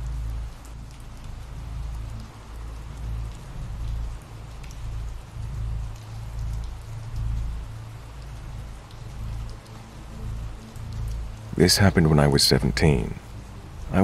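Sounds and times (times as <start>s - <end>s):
raindrops ticking: 0.0s - 14.0s
steady rain: 0.0s - 14.0s.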